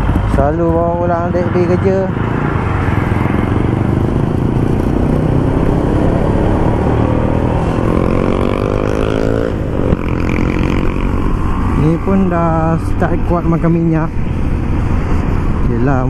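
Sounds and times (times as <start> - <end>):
motorcycle engine accelerating: 0.0 - 15.8
steady rush of noise: 0.0 - 16.0.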